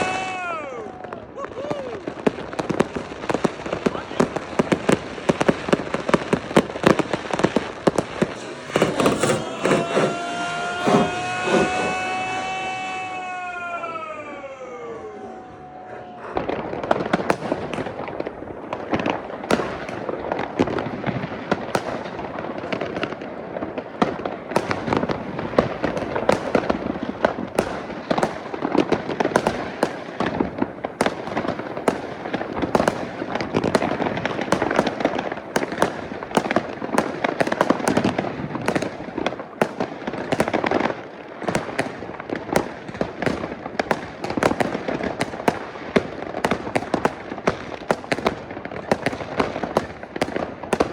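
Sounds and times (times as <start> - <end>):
fireworks and firecrackers banging: 0.0 - 50.9.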